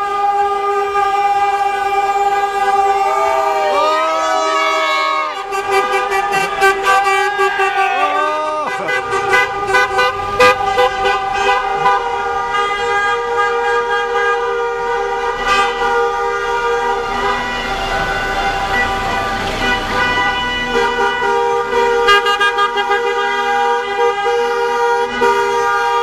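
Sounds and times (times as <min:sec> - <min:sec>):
car horns honking: 0:00.0 - 0:26.0.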